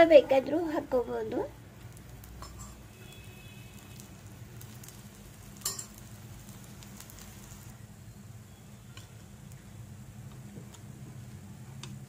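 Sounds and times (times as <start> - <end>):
batter sizzling in oil: 0.1 - 12.0.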